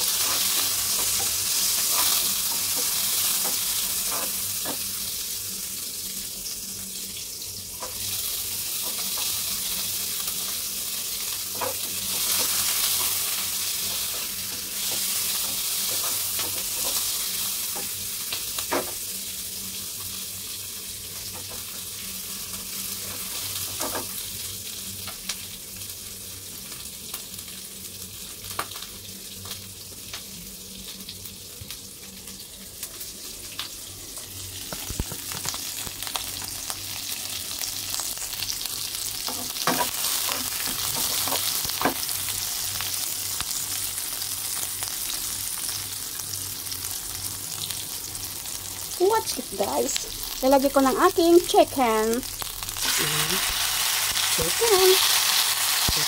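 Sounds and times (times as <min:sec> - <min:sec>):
vegetables sizzling in hot oil: 0:00.0 - 0:56.0.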